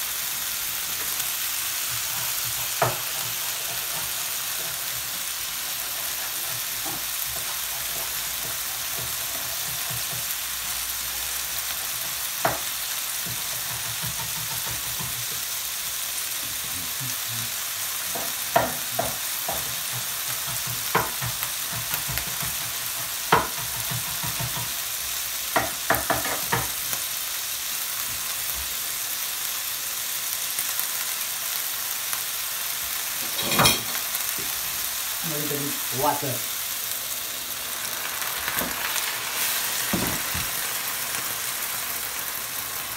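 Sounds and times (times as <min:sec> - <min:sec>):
fish sizzling in a frying pan: 0:00.0 - 0:42.9.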